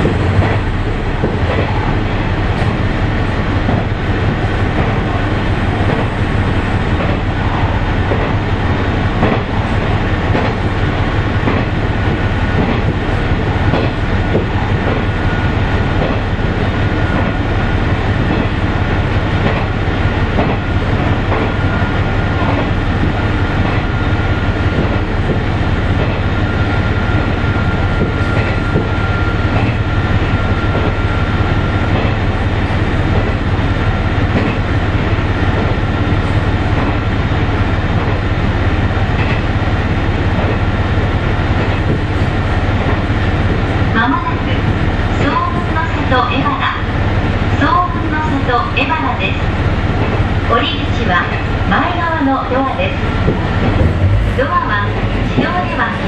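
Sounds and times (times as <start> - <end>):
train engine and rolling drone: 0.0 - 56.0.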